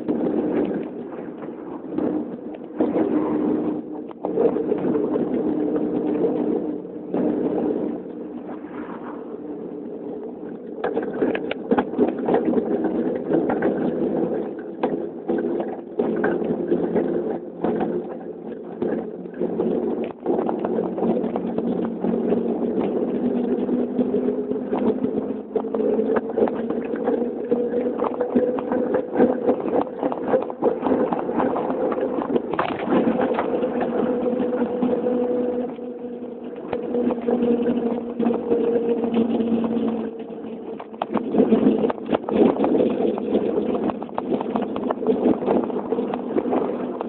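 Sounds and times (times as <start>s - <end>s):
bicycle droning hum: 0.0s - 47.0s.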